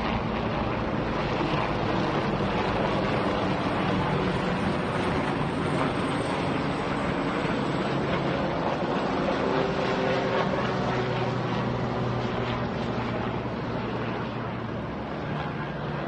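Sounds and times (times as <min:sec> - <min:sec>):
helicopter flying past: 0:00.0 - 0:16.0.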